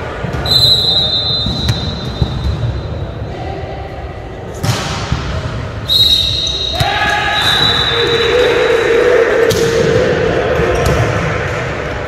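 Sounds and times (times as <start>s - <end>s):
players' voices echoing: 0.0s - 12.0s.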